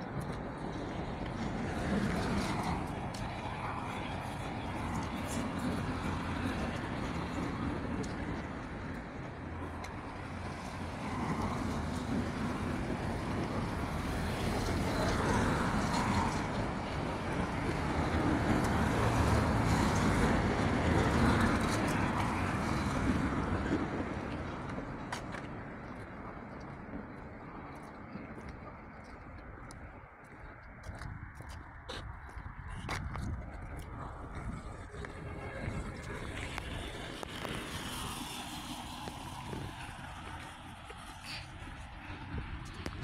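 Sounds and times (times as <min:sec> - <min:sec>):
cars driving past: 0:00.0 - 0:43.0.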